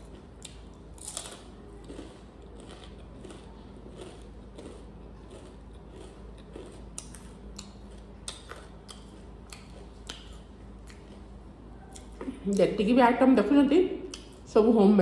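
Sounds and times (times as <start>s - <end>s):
crunchy snacks crunching: 0.0s - 12.2s.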